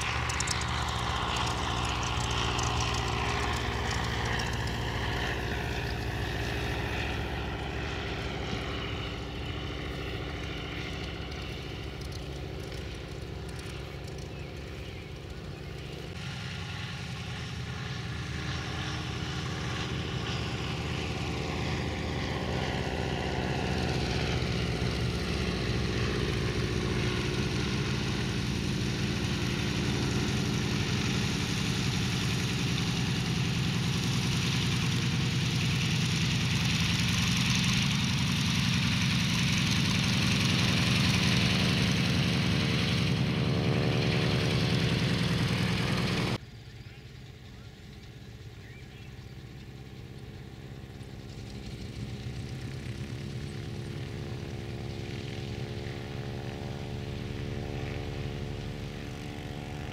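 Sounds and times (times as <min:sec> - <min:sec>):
propeller plane droning overhead: 0:00.0 - 0:59.9.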